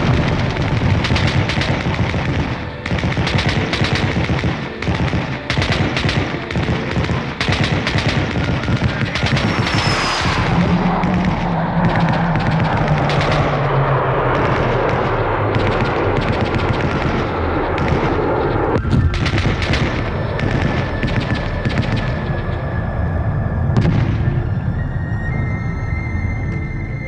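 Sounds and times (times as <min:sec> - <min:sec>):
automatic gunfire: 0:00.0 - 0:22.3.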